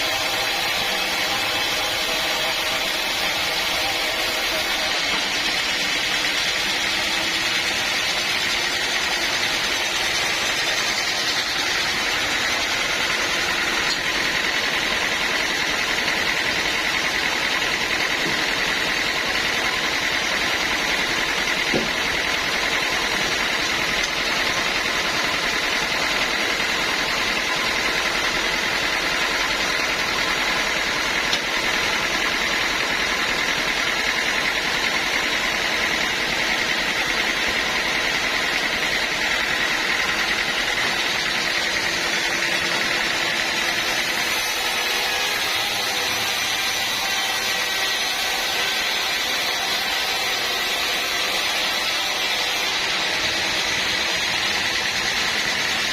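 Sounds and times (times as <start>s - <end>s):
bandsaw sawmill drone: 0.0s - 55.9s.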